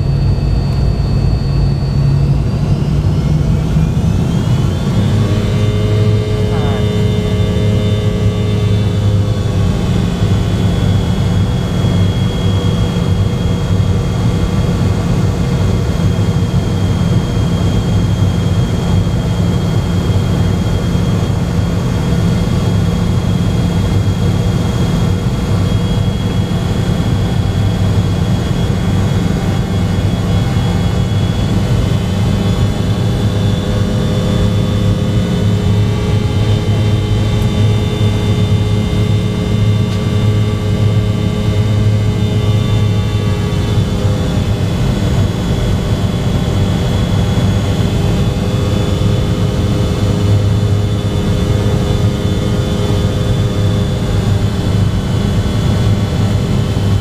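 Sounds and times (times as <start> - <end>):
faint high whine: 0.0 - 57.0
jet engine drone in cabin: 0.0 - 57.0.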